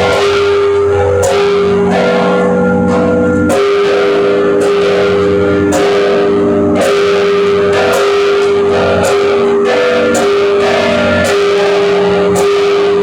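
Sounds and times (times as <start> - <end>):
large church bells ringing: 0.0 - 13.0.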